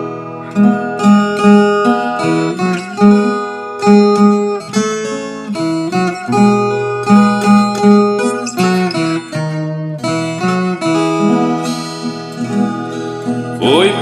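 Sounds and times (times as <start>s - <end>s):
plucked folk guitar melody: 0.0s - 14.0s.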